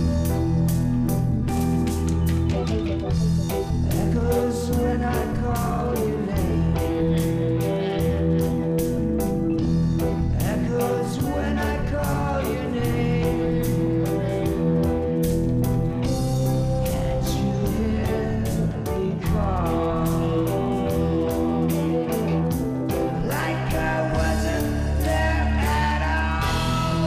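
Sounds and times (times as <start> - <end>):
guitar: 0.0 - 27.0
person singing: 0.0 - 27.0
steady drum beat: 0.0 - 27.0.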